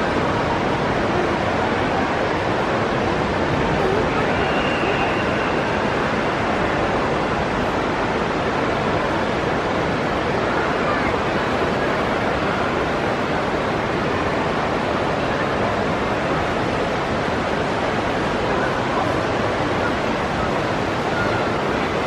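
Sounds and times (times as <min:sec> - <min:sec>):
distant crowd voices: 0:00.0 - 0:22.0.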